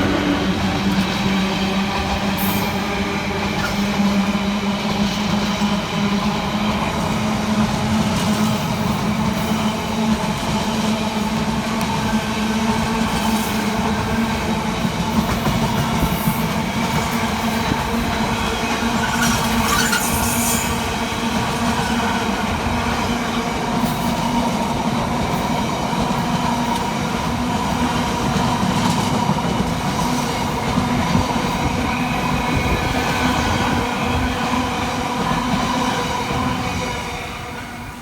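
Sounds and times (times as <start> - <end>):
freight train rolling: 0.0 - 38.0.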